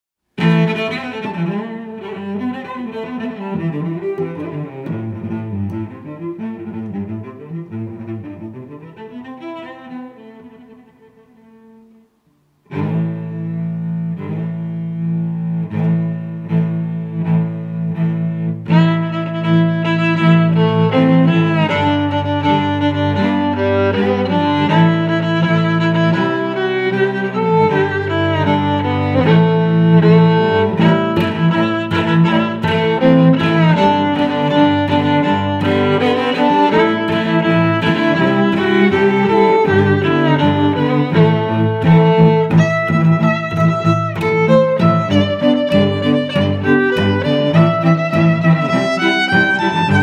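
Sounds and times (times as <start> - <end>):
bowed string music: 0.3 - 50.0.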